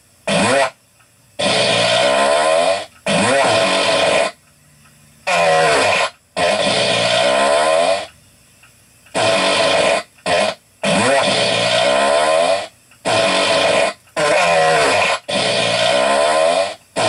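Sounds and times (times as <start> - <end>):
fart sounds: 0.2 - 0.8, 1.4 - 4.4, 5.2 - 8.2, 9.1 - 17.0.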